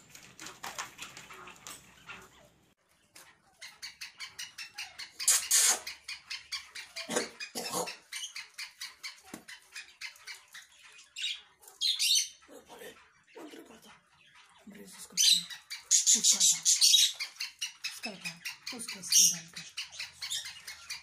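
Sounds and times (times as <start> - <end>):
birds making rapid clicks: 0.0 - 21.0.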